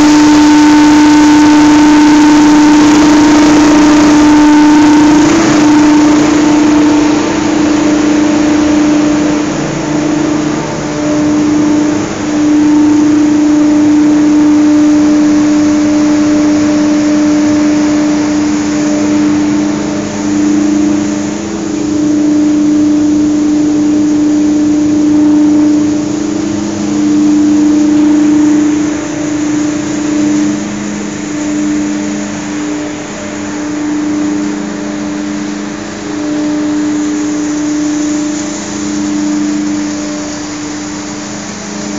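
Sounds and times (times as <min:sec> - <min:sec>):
machinery droning hum: 0:00.0 - 0:41.9.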